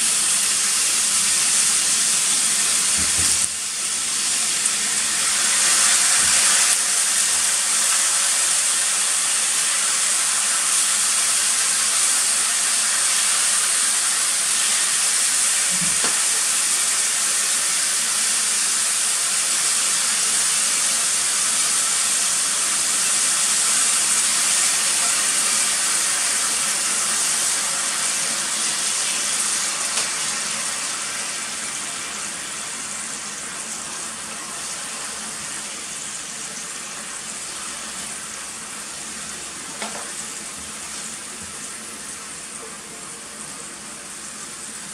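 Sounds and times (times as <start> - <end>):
meat sizzling in a pot: 0.0 - 44.9.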